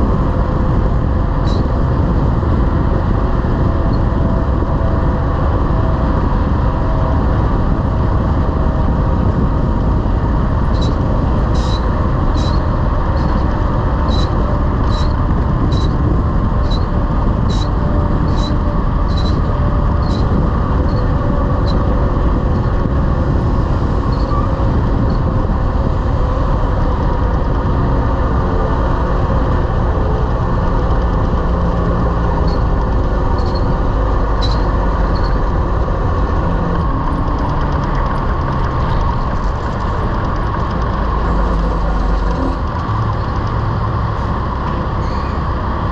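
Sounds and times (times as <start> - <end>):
semi truck driving: 0.0 - 45.9.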